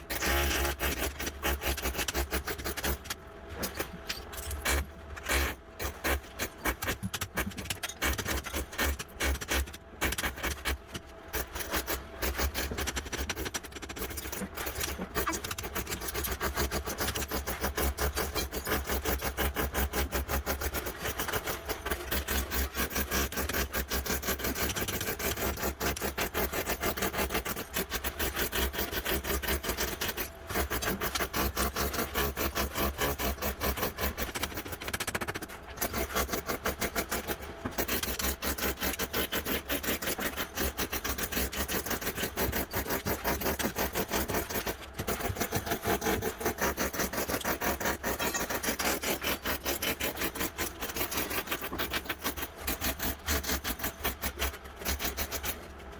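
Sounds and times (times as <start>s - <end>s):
saw cutting through wood: 0.0s - 55.7s.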